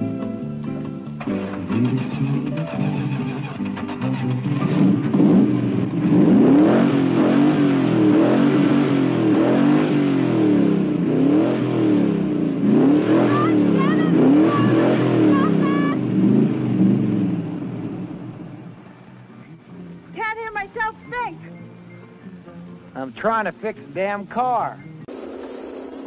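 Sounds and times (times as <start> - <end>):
car engines revving: 0.0 - 20.1, 25.0 - 26.0.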